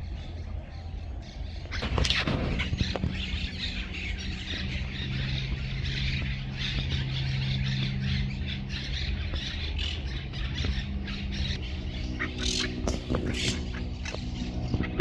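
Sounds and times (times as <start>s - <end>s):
small birds chattering and squawking: 0.0s - 15.0s
steady low hum: 0.0s - 15.0s.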